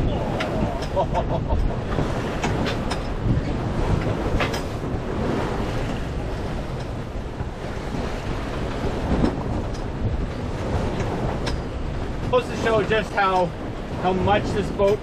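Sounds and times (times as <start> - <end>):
water rushing along a hull: 0.0 - 15.0
wind buffeting microphone: 0.0 - 15.0.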